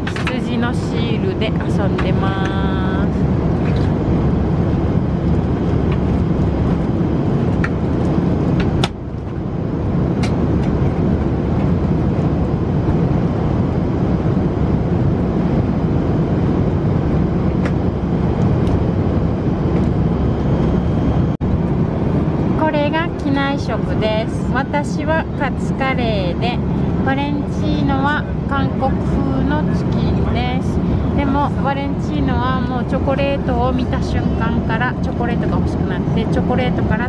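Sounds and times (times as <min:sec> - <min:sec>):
airliner cabin engine drone: 0:00.0 - 0:37.0.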